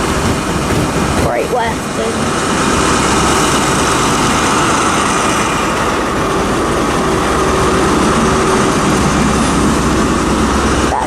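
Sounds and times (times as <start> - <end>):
diesel engine rumbling: 0.0 - 11.0
steady whine: 0.0 - 11.0.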